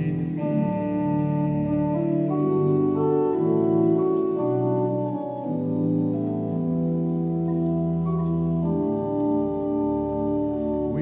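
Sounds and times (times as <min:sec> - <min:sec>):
church organ chords: 0:00.0 - 0:11.0.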